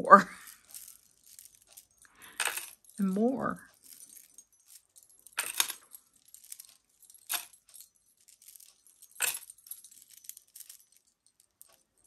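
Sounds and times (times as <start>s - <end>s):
bead bracelets clinking: 0.1s - 12.0s.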